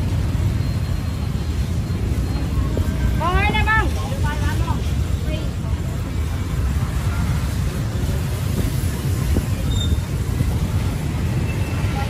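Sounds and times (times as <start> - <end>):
low rumble of street traffic: 0.0 - 12.0.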